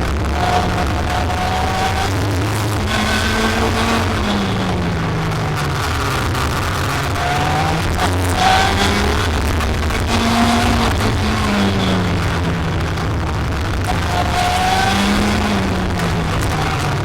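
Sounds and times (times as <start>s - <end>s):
racing kart engine: 0.0s - 17.0s.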